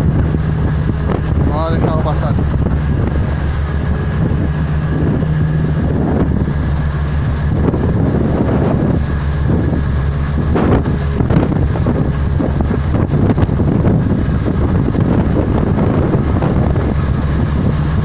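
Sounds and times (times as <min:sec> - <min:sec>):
rushing wake water: 0:00.0 - 0:18.0
ship engine drone: 0:00.0 - 0:18.0
wind buffeting microphone: 0:00.0 - 0:18.0.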